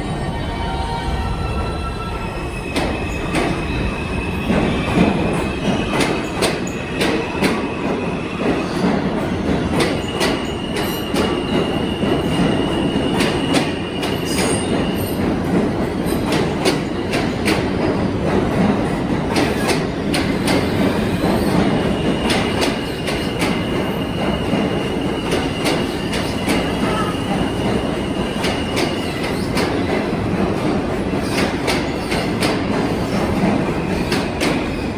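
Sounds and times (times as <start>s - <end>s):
subway train rumbling: 0.0s - 34.9s.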